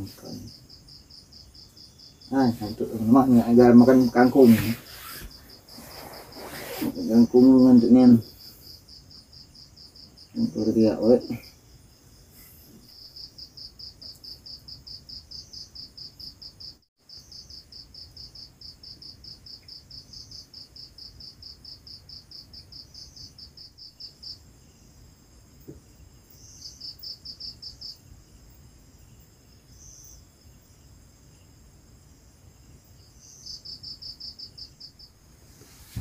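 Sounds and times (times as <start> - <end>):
cricket chirping: 0.0 - 36.0.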